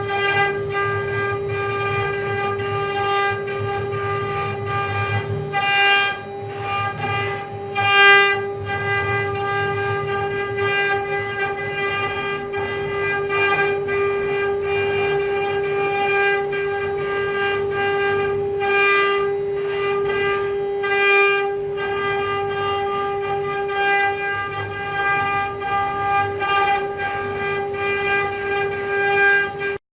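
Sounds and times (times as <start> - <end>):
engraving machine spindle whining: 0.0 - 29.8.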